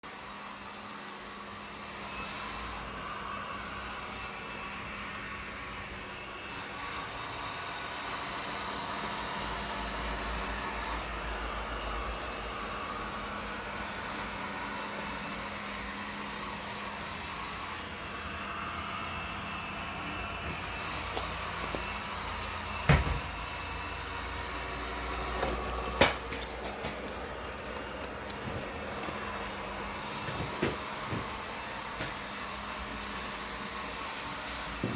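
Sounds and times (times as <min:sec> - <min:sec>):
robot vacuum motor hum: 0:00.1 - 0:34.9.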